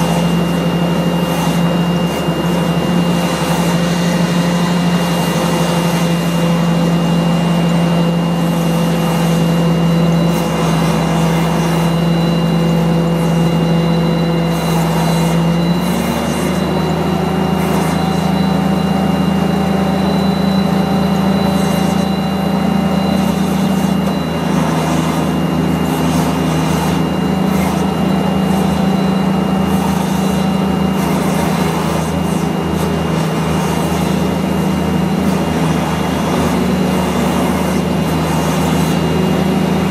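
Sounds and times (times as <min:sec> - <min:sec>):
steady high whine: 0:00.0 - 0:39.9
tug engine running under load: 0:00.0 - 0:39.9.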